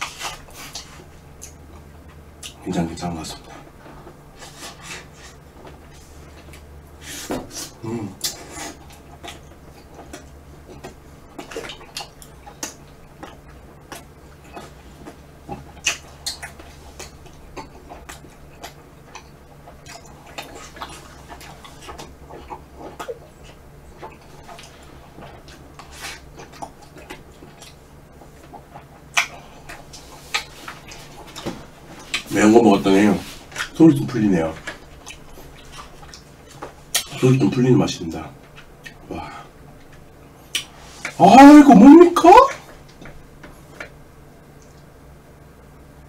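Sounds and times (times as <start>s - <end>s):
chewing and lip smacks: 0.0s - 37.2s, 38.4s - 41.2s, 42.6s - 44.9s.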